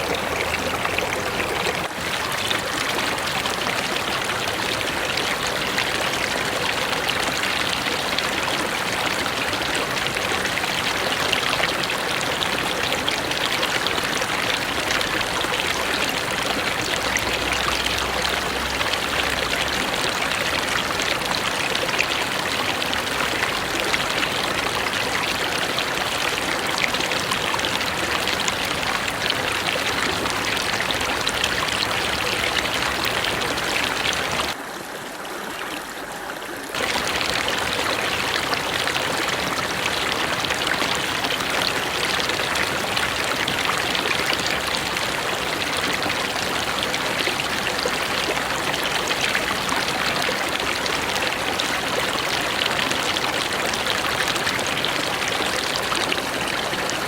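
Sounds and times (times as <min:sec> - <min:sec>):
river flowing over rocks: 0:00.0 - 0:57.0.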